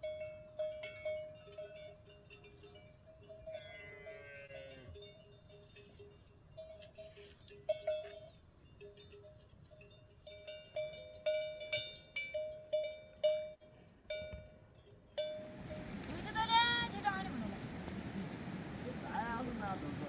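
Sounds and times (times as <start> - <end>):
high-pitched livestock bell clanking: 0.0 - 16.1
low livestock bell clanking: 0.0 - 17.2.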